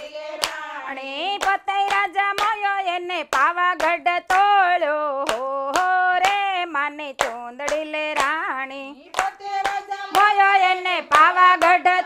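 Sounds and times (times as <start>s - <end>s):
hand claps: 0.0s - 12.0s
women singing together: 0.0s - 12.0s.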